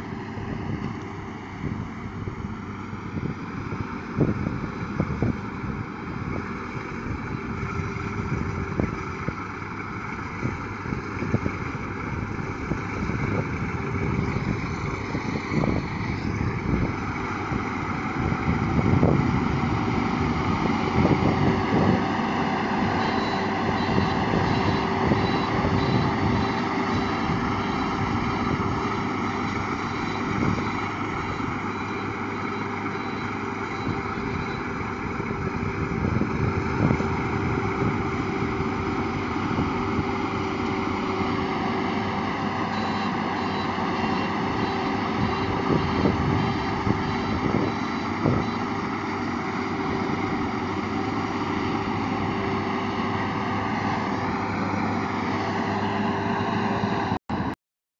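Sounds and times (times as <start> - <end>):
combine harvester running: 0.0 - 57.5.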